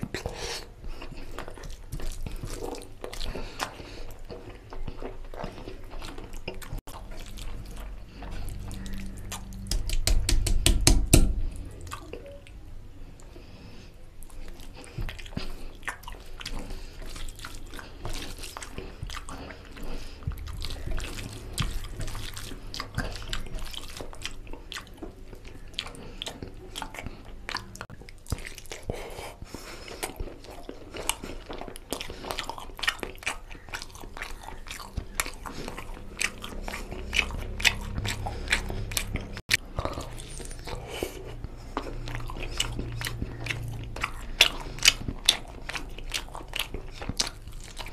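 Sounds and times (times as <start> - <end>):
wet chewing: 0.0 - 47.9.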